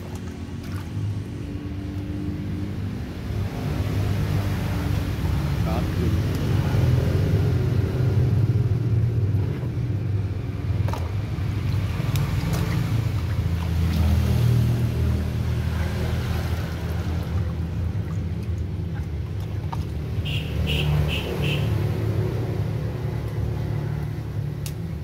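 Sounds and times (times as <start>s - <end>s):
water splashing in a basin: 0.0s - 24.6s.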